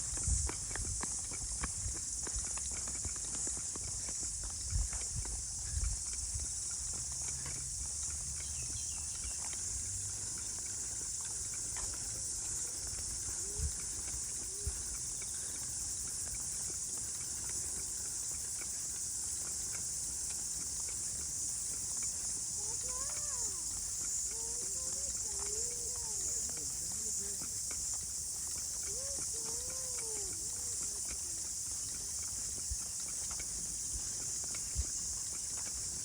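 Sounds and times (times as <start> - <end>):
insects chorus: 0.0 - 36.0.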